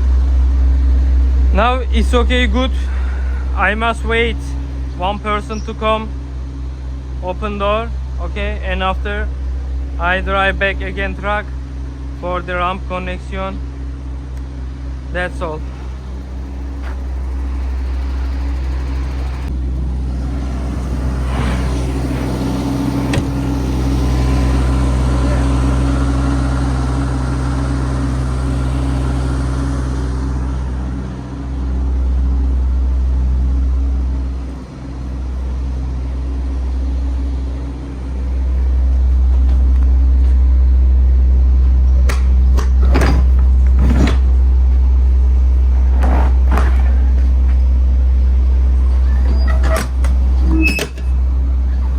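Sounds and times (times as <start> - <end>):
truck diesel engine rumbling: 0.0 - 51.9.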